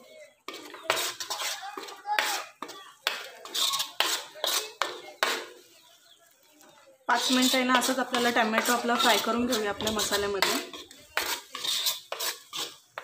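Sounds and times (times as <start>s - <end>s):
paste frying: 0.4s - 6.0s, 7.1s - 13.0s
spoon scraping a metal pan: 0.5s - 5.5s, 7.1s - 13.0s.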